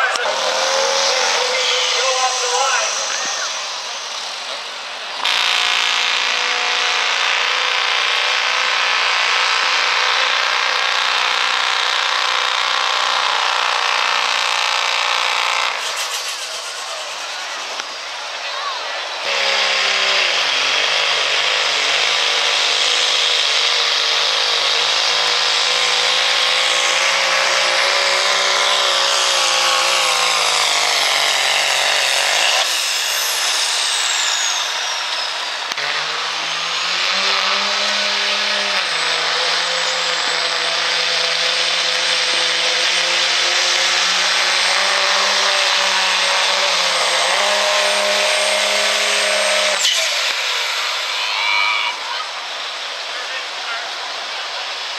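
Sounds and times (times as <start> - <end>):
diesel truck engine at full throttle: 0.0 - 54.9
high turbo whine: 0.0 - 54.9.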